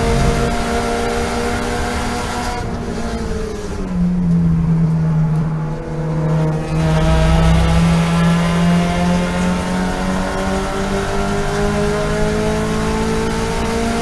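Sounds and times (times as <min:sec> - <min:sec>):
car engine revs falling and rising: 0:00.0 - 0:14.0.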